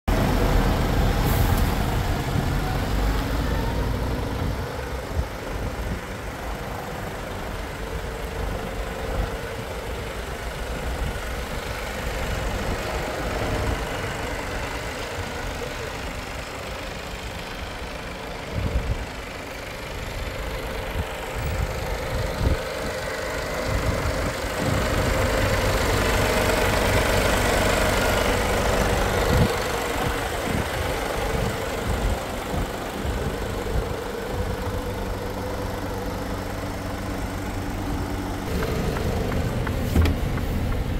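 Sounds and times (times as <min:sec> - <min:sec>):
diesel truck engine idling: 0:00.1 - 0:40.9.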